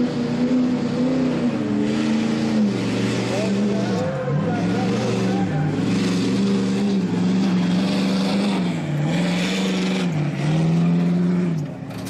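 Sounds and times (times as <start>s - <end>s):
diesel engine revving hard: 0.0s - 12.0s.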